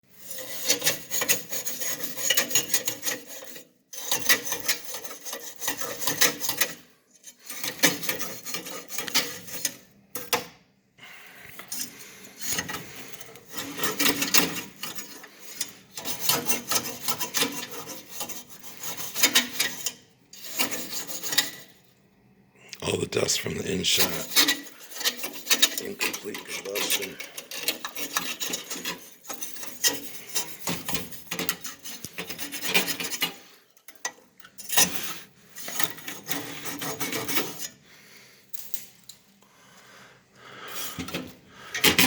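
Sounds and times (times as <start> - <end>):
scraping and scrubbing on metal parts: 0.1 - 10.5, 11.5 - 22.0, 24.0 - 39.0, 40.6 - 42.0.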